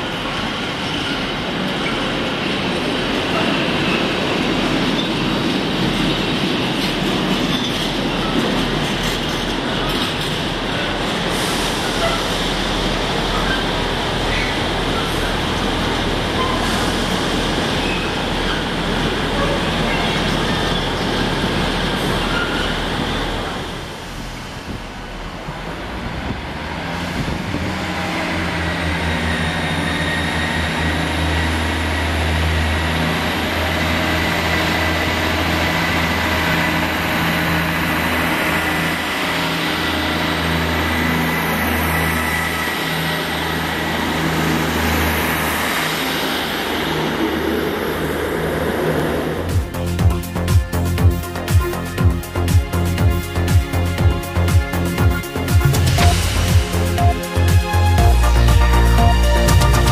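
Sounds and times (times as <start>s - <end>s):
diesel train engines droning: 0.0s - 59.9s
freight wagons rumbling on rails: 0.0s - 59.9s.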